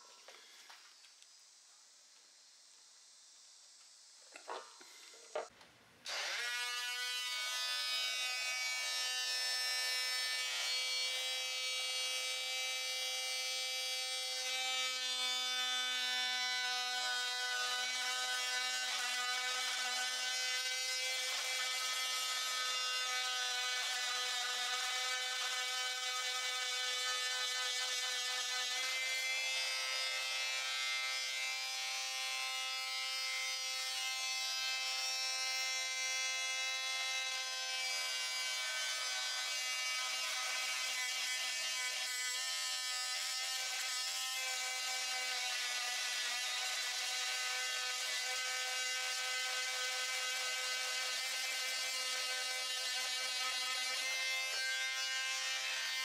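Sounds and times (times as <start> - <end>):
multi-tool buzzing cutting plastic pipe: 4.4 - 56.0.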